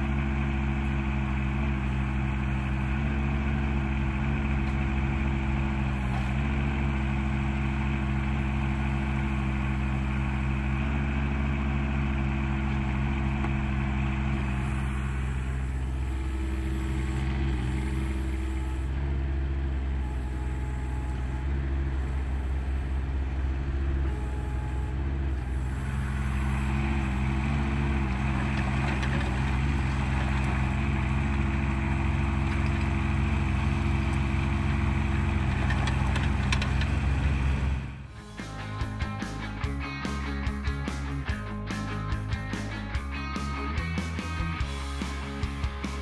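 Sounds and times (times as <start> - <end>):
diesel engine running: 0.0 - 46.0
hydraulics working: 0.1 - 42.7.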